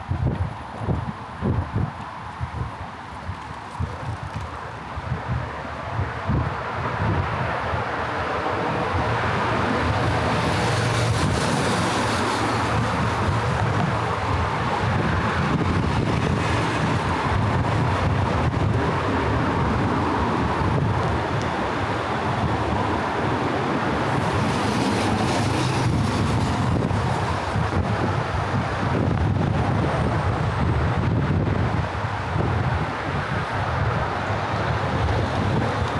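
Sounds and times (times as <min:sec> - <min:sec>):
passing cars: 0:00.0 - 0:35.9
wind on microphone: 0:00.0 - 0:35.9.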